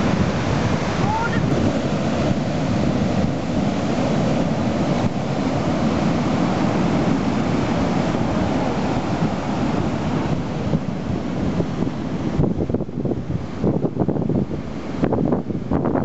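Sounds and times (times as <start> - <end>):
sea surf breaking on shore: 0.0 - 16.0
wind noise on microphone: 0.0 - 16.0.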